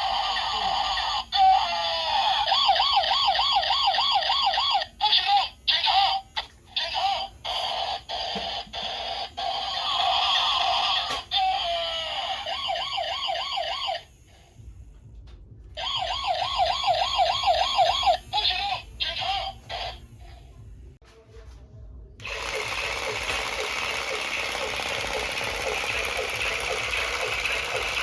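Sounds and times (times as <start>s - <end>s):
toy electronic siren: 0.0s - 14.1s, 15.8s - 20.1s, 22.2s - 28.0s.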